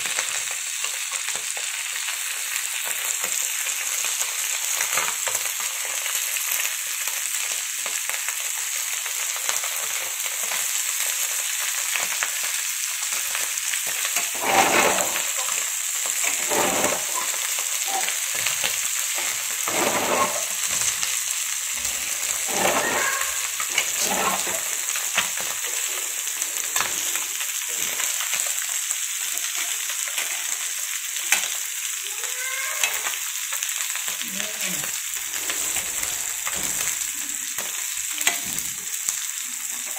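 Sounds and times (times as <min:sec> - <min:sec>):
fish sizzling in oil: 0:00.0 - 0:39.9.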